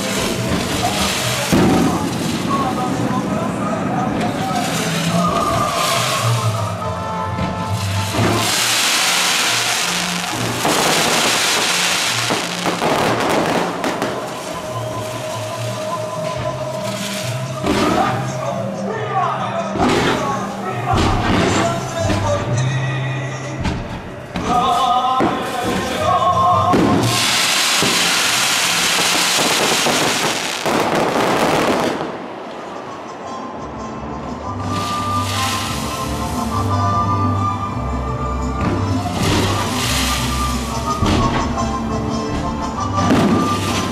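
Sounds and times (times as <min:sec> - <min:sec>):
fireworks fountains hissing and crackling: 0:00.0 - 0:18.9, 0:19.6 - 0:22.6, 0:23.3 - 0:32.9, 0:34.6 - 0:43.9
music: 0:00.0 - 0:43.9.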